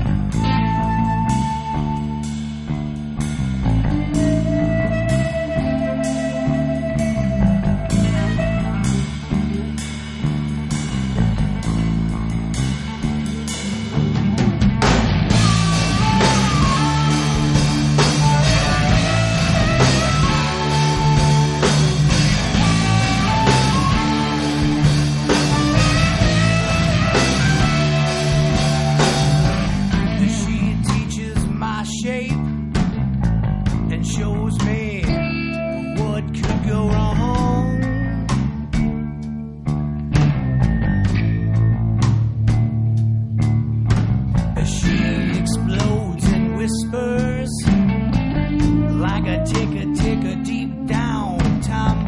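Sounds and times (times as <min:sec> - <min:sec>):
rock band instrumental: 0:00.0 - 0:52.0.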